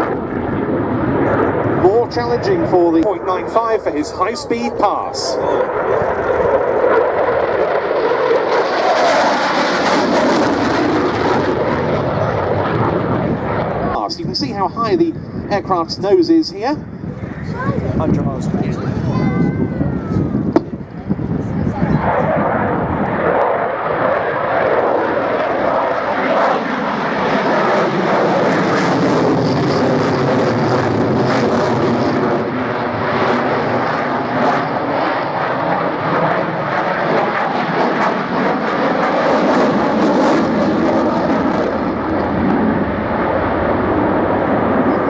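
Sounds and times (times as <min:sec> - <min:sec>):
fighter jet engine: 0:00.0 - 0:45.0.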